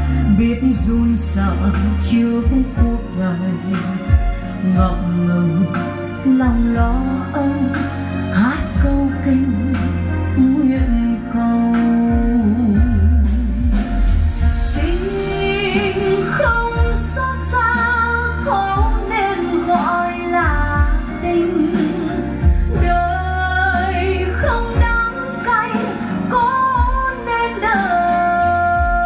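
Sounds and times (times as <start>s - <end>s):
woman singing a ballad: 0.0s - 13.8s, 14.6s - 29.0s
deep bass line: 0.0s - 25.4s.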